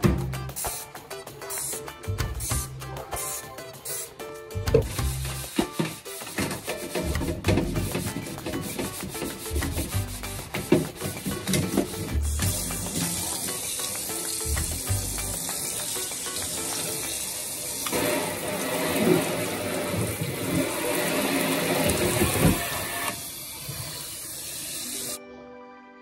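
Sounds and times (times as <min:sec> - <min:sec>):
soft background music: 0:00.0 - 0:23.1
faucet sprayer spraying water: 0:00.5 - 0:25.2.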